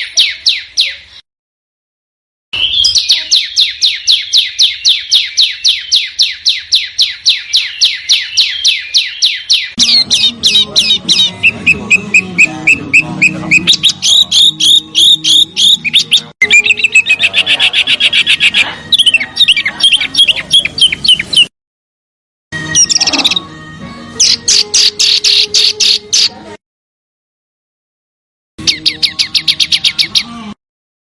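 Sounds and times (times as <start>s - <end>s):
songbird whistled notes and chirps: 0.0s - 1.2s, 2.6s - 21.5s, 22.7s - 23.4s, 24.2s - 26.3s, 28.6s - 30.4s.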